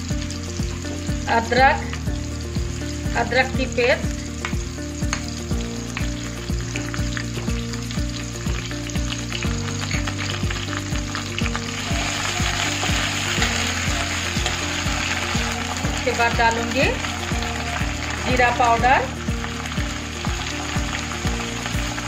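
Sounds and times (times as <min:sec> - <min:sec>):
background music with steady beat: 0:00.0 - 0:22.0
hot oil sizzling: 0:00.0 - 0:22.0.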